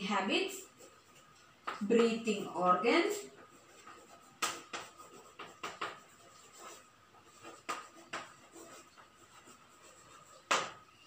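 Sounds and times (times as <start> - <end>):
chalk writing on a blackboard: 0.4 - 11.0.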